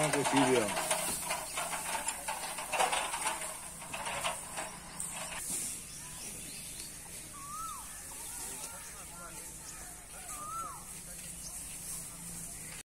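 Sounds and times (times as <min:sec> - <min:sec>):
straw rustling: 0:00.0 - 0:12.8.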